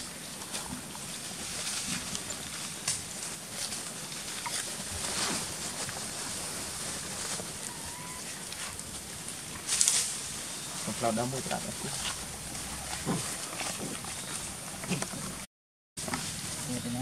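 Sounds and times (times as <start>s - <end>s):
steady forest hiss: 0.0s - 15.2s, 16.0s - 17.0s.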